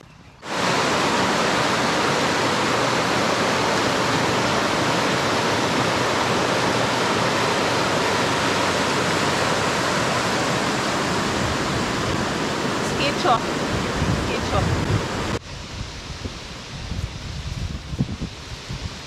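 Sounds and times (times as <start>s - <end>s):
river water rushing: 0.4s - 16.9s.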